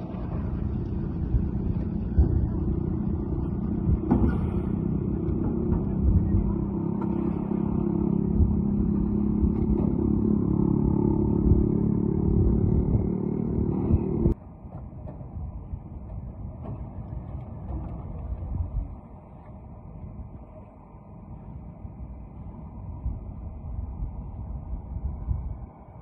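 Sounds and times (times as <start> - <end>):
construction site noise: 0.0 - 26.0.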